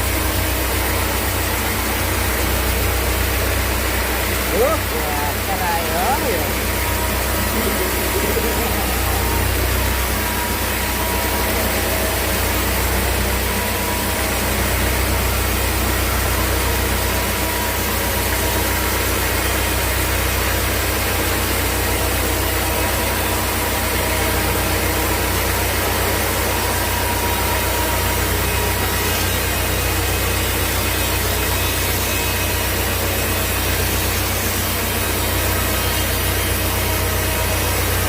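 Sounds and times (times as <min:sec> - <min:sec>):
sawmill machinery running: 0:00.0 - 0:38.0.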